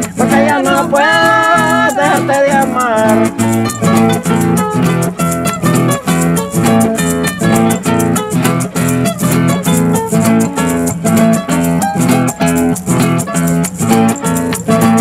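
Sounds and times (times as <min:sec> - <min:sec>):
acoustic guitar melody: 0:00.0 - 0:15.0
maracas shaking: 0:00.0 - 0:15.0.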